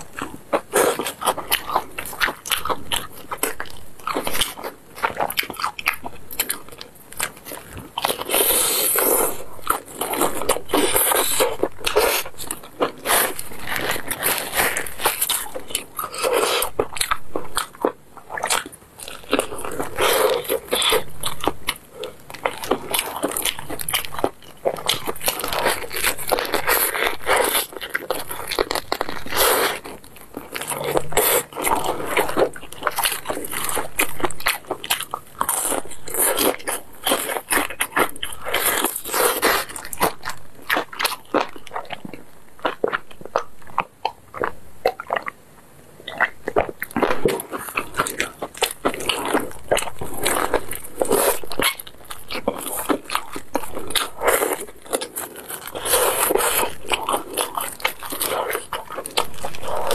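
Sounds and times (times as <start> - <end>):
crunching fried chicken: 0.0 - 45.4, 46.0 - 59.9.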